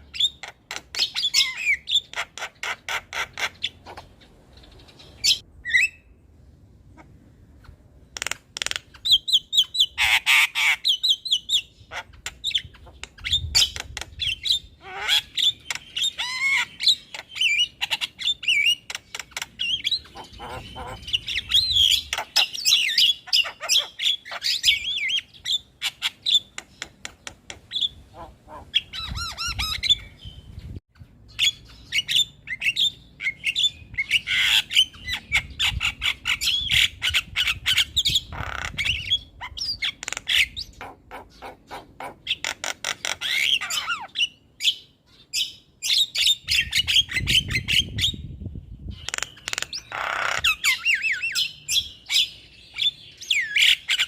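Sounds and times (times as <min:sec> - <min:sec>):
bird chattering and whistling: 0:00.0 - 0:06.1, 0:08.2 - 0:30.5, 0:31.3 - 0:54.0.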